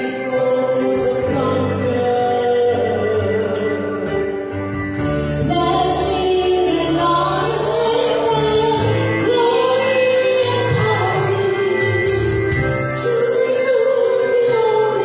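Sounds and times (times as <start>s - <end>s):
keyboard accompaniment: 0.0s - 15.0s
woman singing into a microphone: 0.0s - 15.0s.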